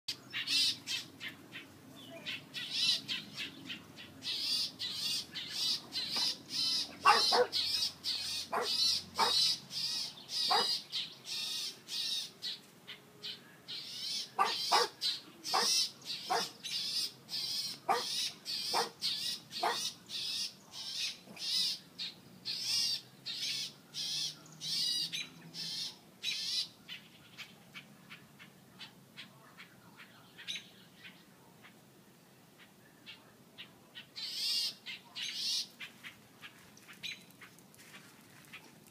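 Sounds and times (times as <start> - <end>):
bird chirping: 0.1 - 31.8, 32.6 - 38.8.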